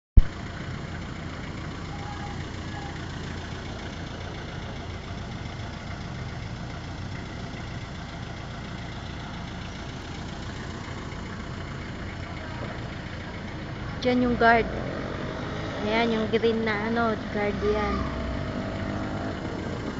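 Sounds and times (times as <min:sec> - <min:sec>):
road noise: 0:00.2 - 0:19.9
vehicle engine hum: 0:00.2 - 0:19.9.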